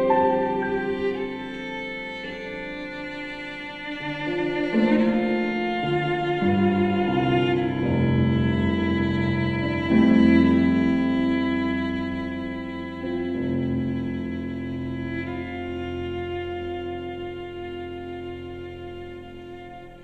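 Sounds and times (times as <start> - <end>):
cello bowed notes: 0.0 - 20.0.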